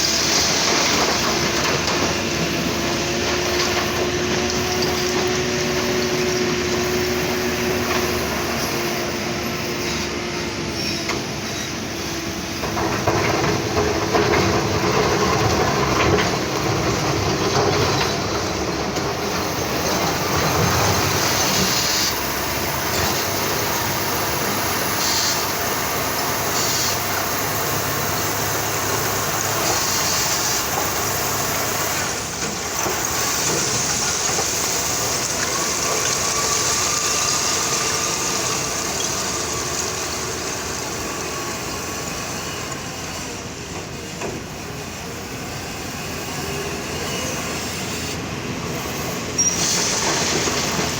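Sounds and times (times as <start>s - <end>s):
diesel engine running hard: 0.0s - 50.9s.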